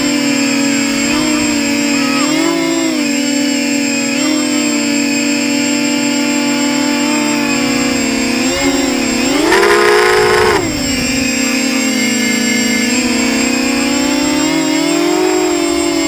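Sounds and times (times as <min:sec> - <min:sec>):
drone motors whining: 0:00.2 - 0:16.0.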